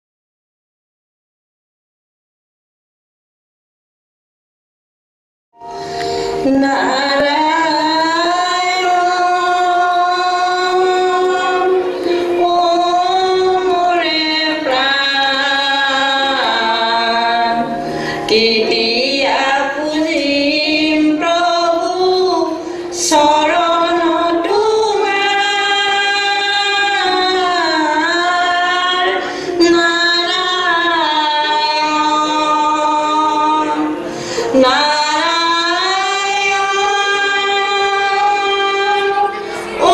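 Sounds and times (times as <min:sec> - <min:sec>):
accompanying music: 0:05.6 - 0:39.9
woman singing slow song: 0:05.7 - 0:39.9.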